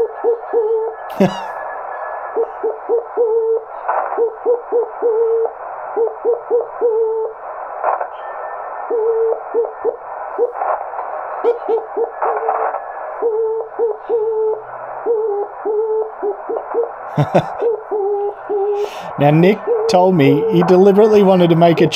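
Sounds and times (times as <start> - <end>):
radio band hiss: 1.1 - 2.4, 3.7 - 21.9.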